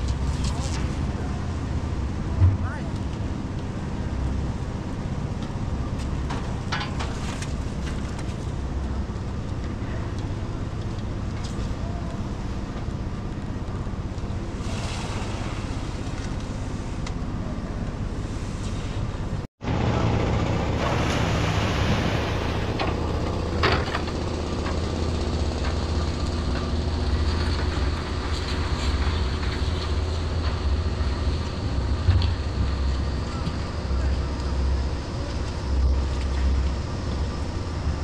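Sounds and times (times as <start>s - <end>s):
construction machinery droning: 0.0s - 38.0s.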